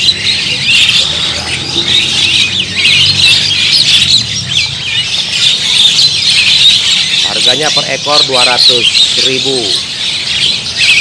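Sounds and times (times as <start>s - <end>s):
many small birds chirping: 0.0s - 11.0s.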